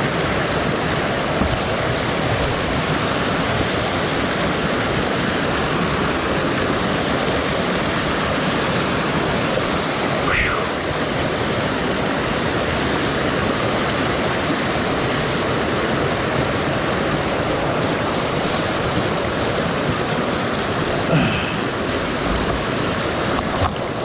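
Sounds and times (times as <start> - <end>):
fast-flowing creek rushing: 0.0 - 24.0.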